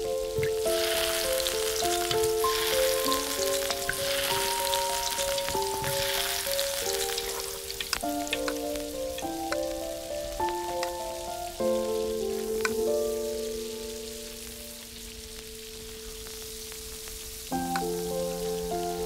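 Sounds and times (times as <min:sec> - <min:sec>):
soft instrumental music: 0:00.0 - 0:19.0
dough balls sizzling in ghee: 0:00.1 - 0:19.0.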